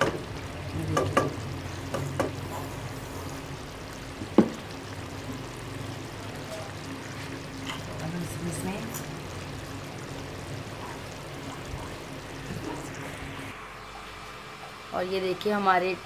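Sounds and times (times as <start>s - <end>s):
curry simmering: 0.0s - 16.0s.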